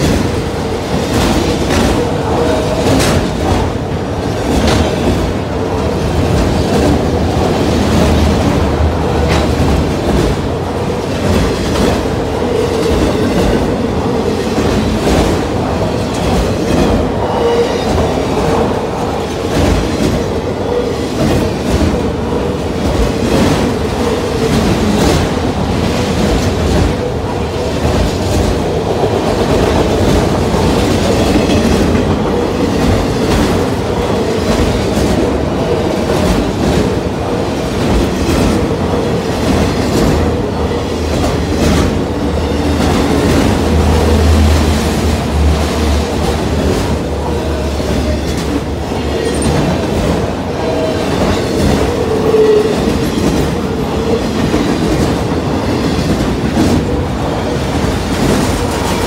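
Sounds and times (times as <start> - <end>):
steel wheels rolling on rail: 0.0 - 59.0
wheels clickety-clack over rail joints: 0.0 - 59.0.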